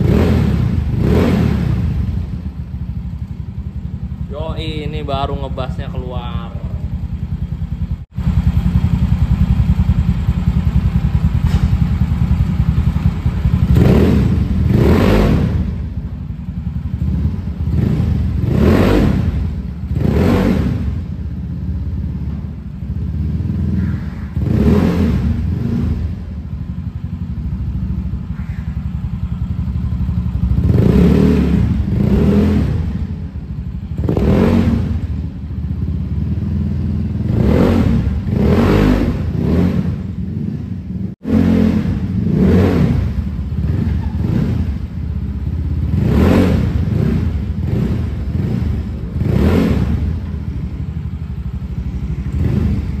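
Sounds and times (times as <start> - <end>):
scooter engine idling: 0.0 - 34.2, 34.8 - 37.4, 43.0 - 53.0
scooter engine revving: 0.0 - 53.0.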